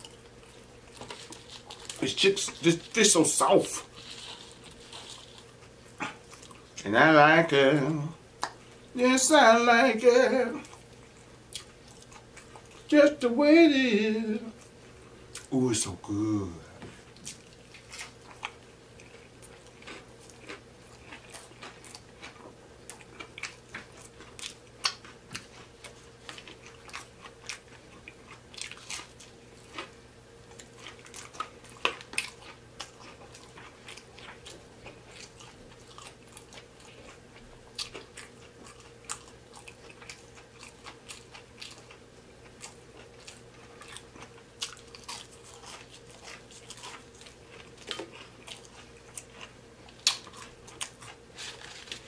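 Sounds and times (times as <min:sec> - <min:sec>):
chewing crispy fish: 0:00.0 - 0:06.9, 0:10.3 - 0:13.2, 0:16.9 - 0:52.0.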